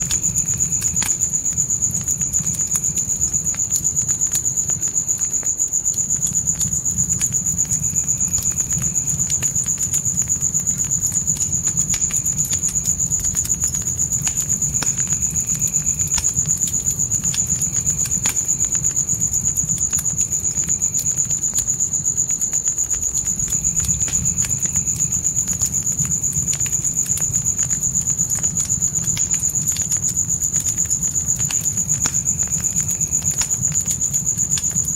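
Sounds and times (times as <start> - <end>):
crickets trilling: 0.0 - 34.9
wood fire crackling: 0.0 - 34.9.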